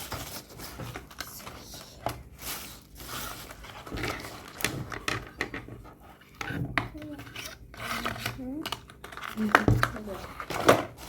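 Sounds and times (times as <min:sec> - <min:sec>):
packaging rustling: 0:00.0 - 0:06.3, 0:07.0 - 0:11.0.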